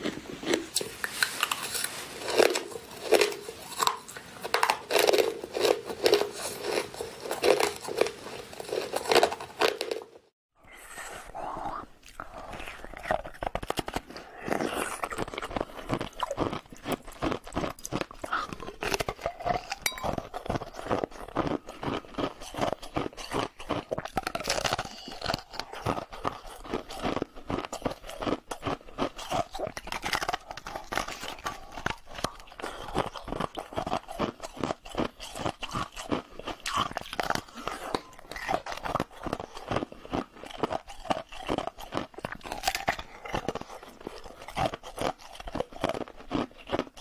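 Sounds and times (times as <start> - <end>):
ice crunching between teeth: 0.0 - 10.3, 11.6 - 47.0.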